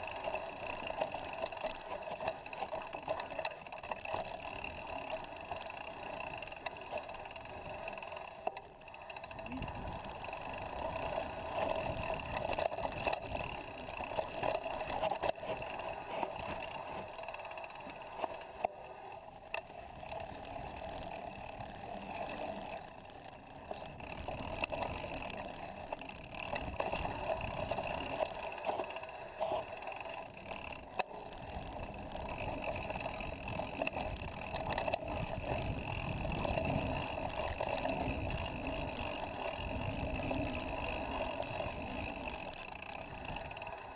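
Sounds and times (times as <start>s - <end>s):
bike clicks and rattles: 0.0s - 43.9s.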